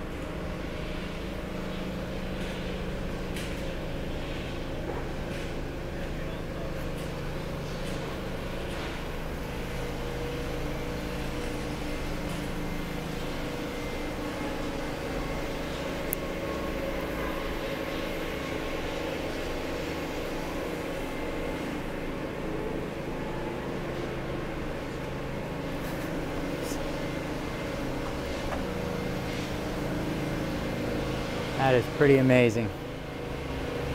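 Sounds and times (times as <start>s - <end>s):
low mechanical drone: 0.0s - 33.9s.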